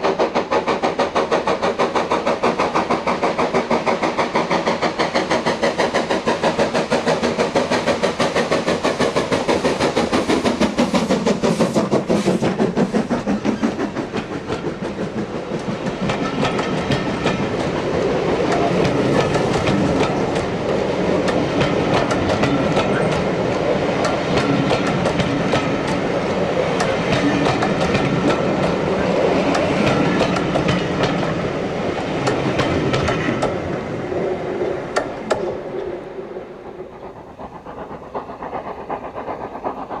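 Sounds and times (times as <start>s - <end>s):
steam locomotive exhaust beats: 0.0s - 40.0s
train wheels clicking over rail joints: 0.0s - 40.0s.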